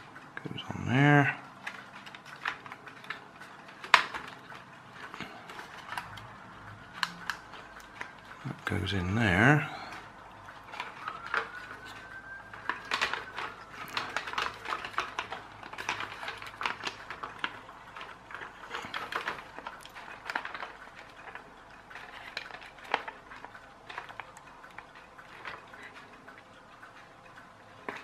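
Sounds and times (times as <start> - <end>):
plastic parts clicking and knocking: 0.0 - 28.0.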